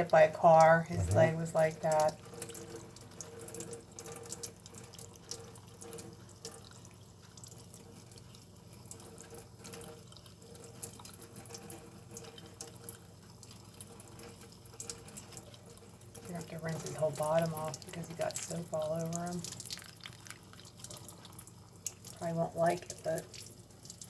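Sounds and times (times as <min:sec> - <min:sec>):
faucet water splashing in sink: 0:00.0 - 0:24.0
water drips: 0:00.0 - 0:24.0.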